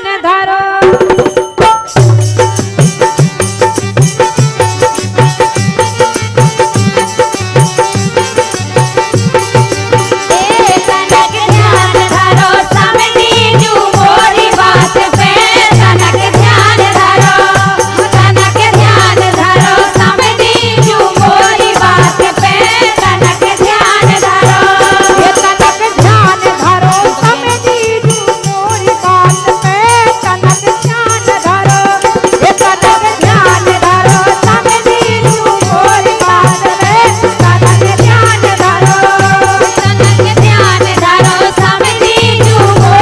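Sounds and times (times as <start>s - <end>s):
fast drumming: 0.8s - 43.0s.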